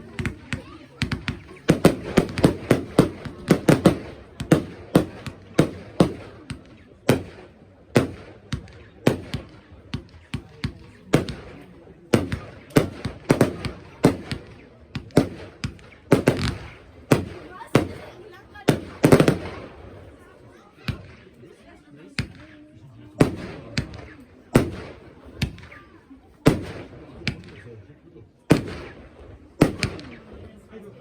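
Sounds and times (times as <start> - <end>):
fireworks banging: 0.0 - 20.2, 22.2 - 22.6, 23.2 - 27.8, 28.4 - 30.6.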